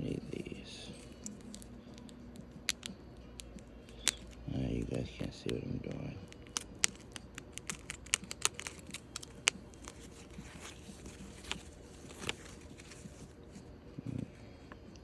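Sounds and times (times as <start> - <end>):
packing wrap crinkling and snapping: 0.8 - 5.5, 6.2 - 14.2.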